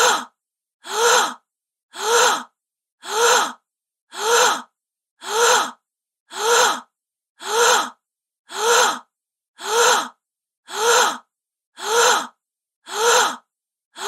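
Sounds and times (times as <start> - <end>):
woman gasping: 2.0 - 14.0.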